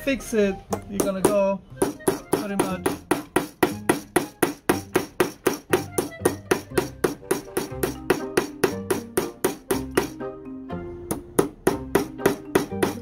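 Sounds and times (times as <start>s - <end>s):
background music: 0.0s - 13.0s
hammer tapping metal: 0.7s - 10.2s, 11.1s - 13.0s.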